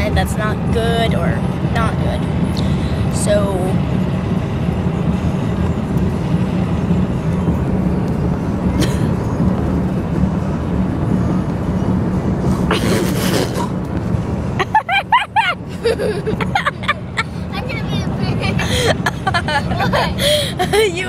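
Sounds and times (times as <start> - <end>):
road noise inside vehicle: 0.0 - 21.0.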